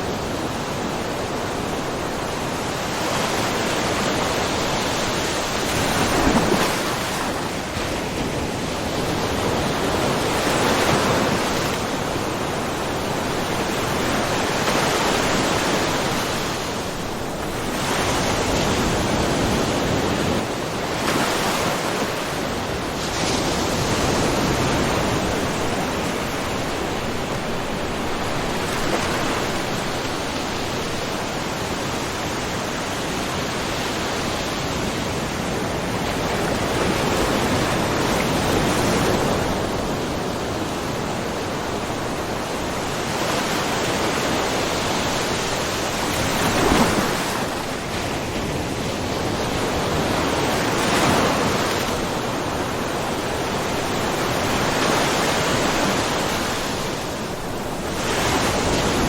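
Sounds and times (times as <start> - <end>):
ocean waves lapping on rocks: 3.3 - 33.0, 35.2 - 59.0.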